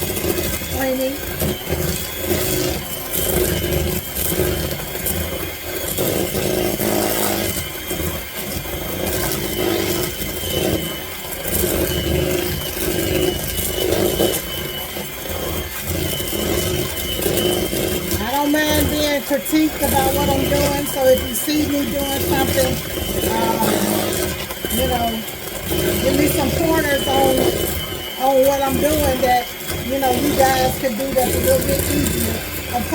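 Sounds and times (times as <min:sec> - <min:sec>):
electric hand mixer running: 0:00.0 - 0:32.9.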